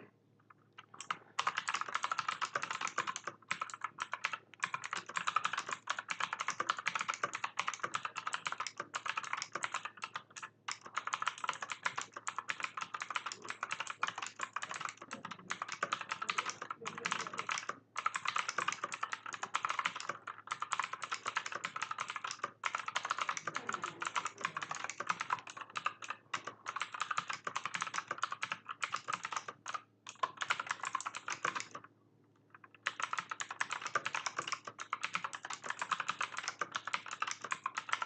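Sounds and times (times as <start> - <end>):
mechanical keyboard typing: 0.8 - 31.9, 32.5 - 38.0.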